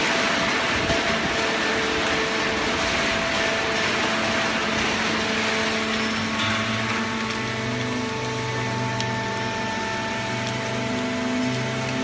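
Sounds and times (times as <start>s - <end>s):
baler machine humming: 0.0s - 12.0s
deeper hum: 0.0s - 12.0s.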